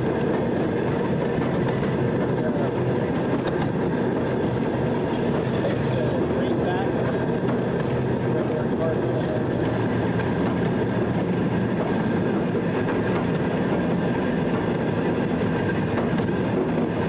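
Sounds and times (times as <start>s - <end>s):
rail car engine running: 0.0s - 17.0s
steel wheels on rails: 0.0s - 17.0s.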